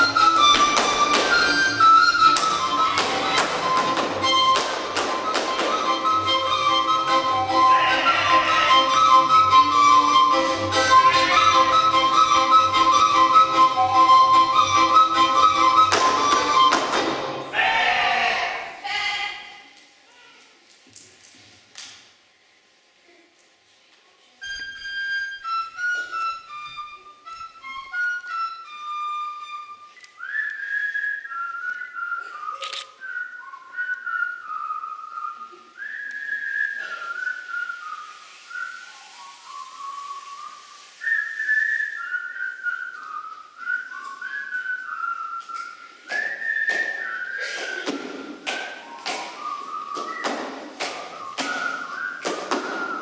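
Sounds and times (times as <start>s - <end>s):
folk flute melody: 0.0s - 17.5s, 24.3s - 53.0s.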